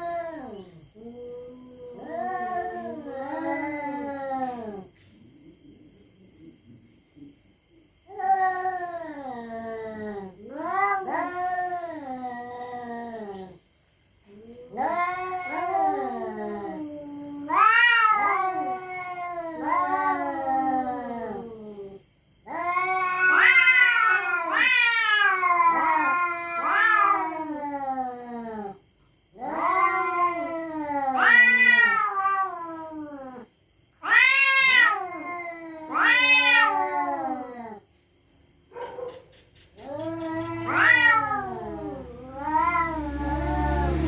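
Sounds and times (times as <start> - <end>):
cats yowling: 0.0 - 4.9, 8.1 - 13.6, 14.3 - 37.9, 38.8 - 44.0.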